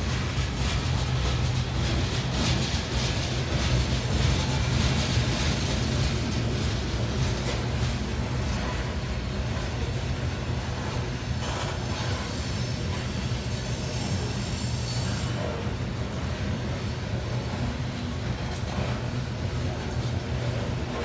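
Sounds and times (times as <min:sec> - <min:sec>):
train wheels rolling on rails: 0:00.0 - 0:21.0.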